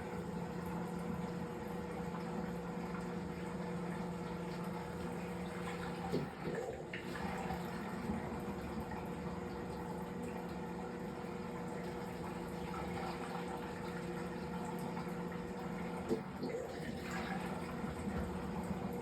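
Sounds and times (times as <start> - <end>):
water rushing into washing machine: 0.0 - 19.0.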